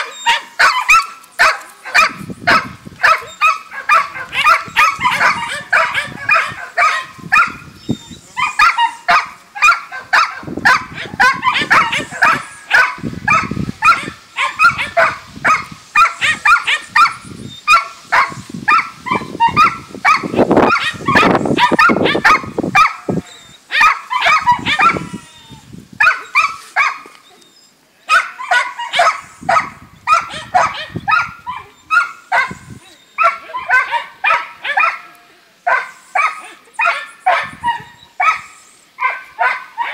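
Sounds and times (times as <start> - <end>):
puppy yipping and whining: 0.0 - 34.9, 35.7 - 39.9.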